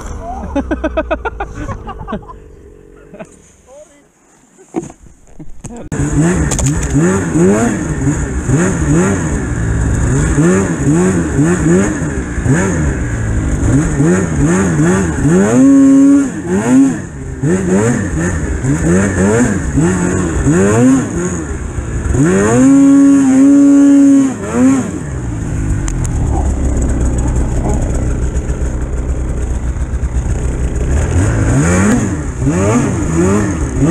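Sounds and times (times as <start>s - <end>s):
snowmobile engine revving: 0.0s - 4.0s, 5.9s - 33.9s.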